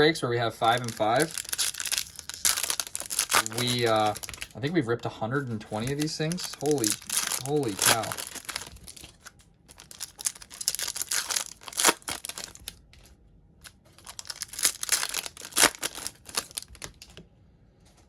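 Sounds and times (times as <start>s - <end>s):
plastic wrappers tearing and crinkling: 0.5s - 4.7s, 5.6s - 12.8s, 14.0s - 17.2s.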